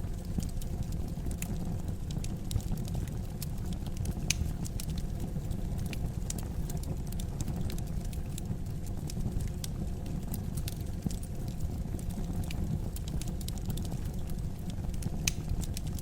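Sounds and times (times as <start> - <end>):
fire flames rumbling: 0.0 - 16.0
wood fire crackling and popping: 0.0 - 16.0.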